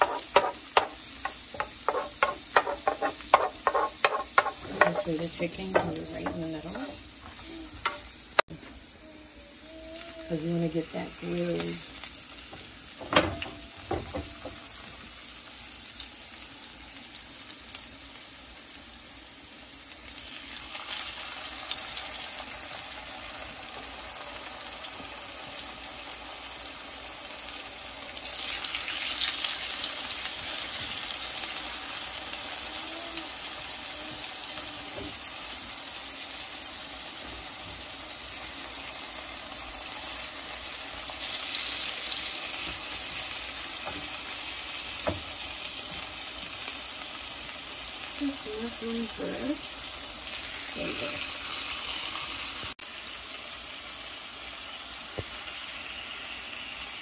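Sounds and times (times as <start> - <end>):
chicken sizzling in frying pan: 0.0 - 57.0.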